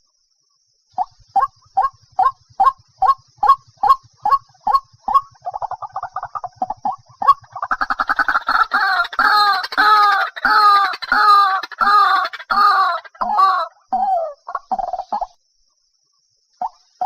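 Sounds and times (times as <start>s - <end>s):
waterhen call: 1.0s - 15.4s.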